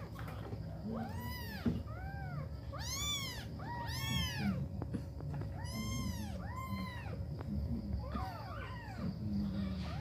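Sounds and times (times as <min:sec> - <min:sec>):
kittens mewing: 0:00.8 - 0:10.0.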